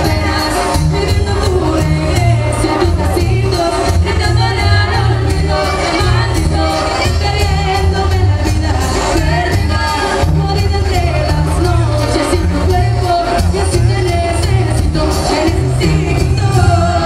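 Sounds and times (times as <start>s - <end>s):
steady bass drum beat: 0.0s - 17.0s
woman singing into a microphone: 0.0s - 17.0s.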